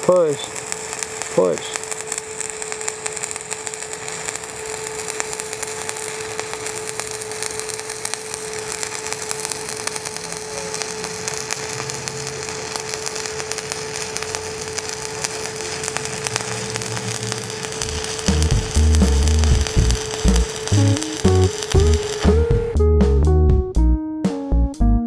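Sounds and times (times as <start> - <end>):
welding arc crackling: 0.0 - 22.8.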